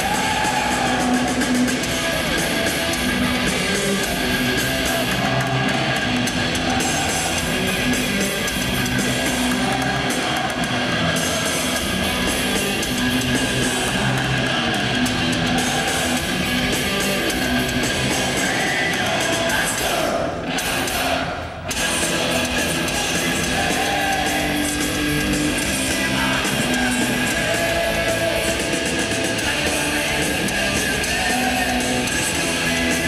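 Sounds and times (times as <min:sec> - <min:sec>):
heavy metal band playing live: 0:00.0 - 0:33.0.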